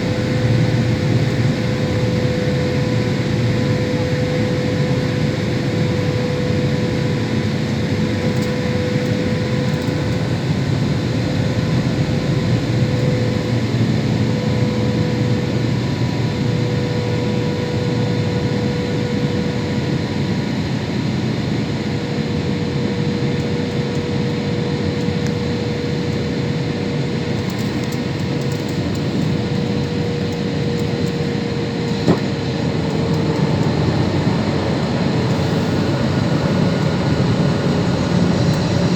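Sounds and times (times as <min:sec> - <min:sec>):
constant whine: 0:00.0 - 0:38.9
jet airliner cabin roar: 0:00.0 - 0:38.9.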